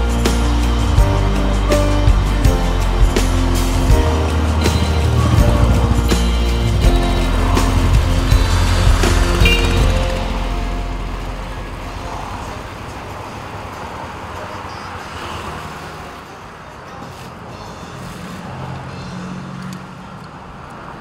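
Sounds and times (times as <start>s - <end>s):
motorcycles idling: 0.0s - 20.9s
street traffic: 0.0s - 21.0s.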